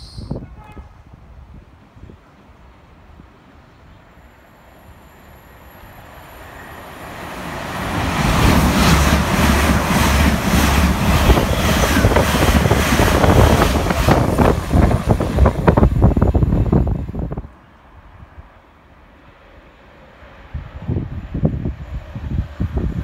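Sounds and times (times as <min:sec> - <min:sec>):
high-speed train roaring past: 0:00.0 - 0:23.0.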